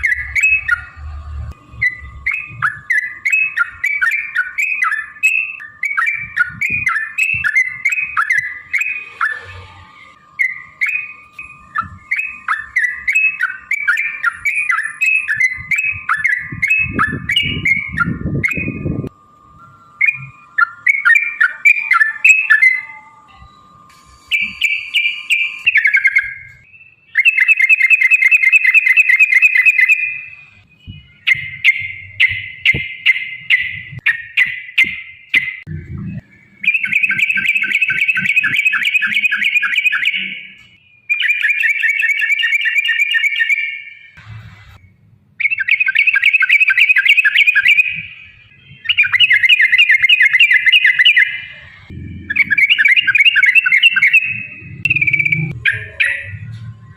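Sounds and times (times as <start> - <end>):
bird song warbling: 0.0 - 19.1, 19.9 - 23.3, 24.2 - 44.2, 44.8 - 56.6.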